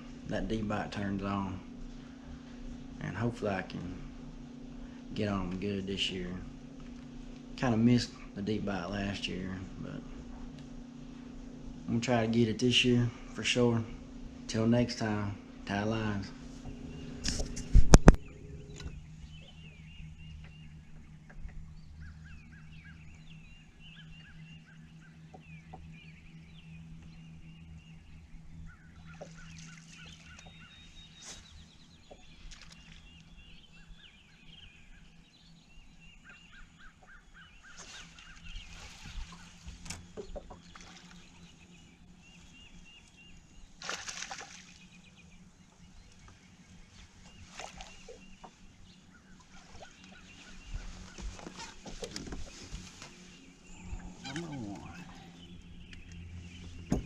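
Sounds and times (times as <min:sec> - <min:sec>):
birds calling rapid notes: 0:00.0 - 0:57.0
steady low hum: 0:00.0 - 0:57.0.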